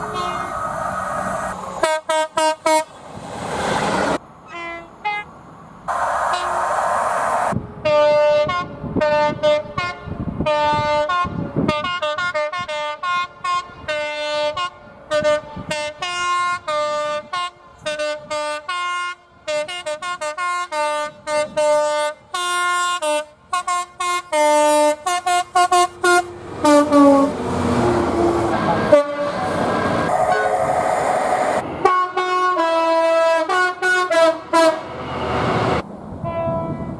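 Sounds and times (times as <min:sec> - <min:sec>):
train air horn toots: 0:01.8 - 0:02.9, 0:04.5 - 0:05.3, 0:05.9 - 0:35.0, 0:36.2 - 0:36.9.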